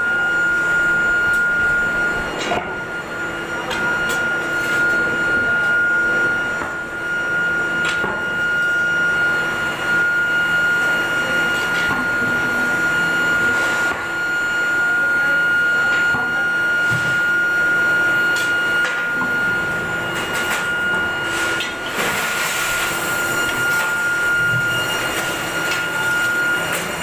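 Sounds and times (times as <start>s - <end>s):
high machinery whine: 0.0s - 27.0s.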